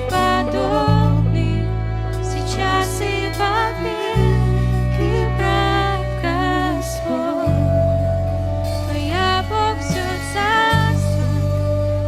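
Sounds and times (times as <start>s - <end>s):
person singing with vibrato: 0.0s - 12.0s
sustained low chords: 0.0s - 12.0s.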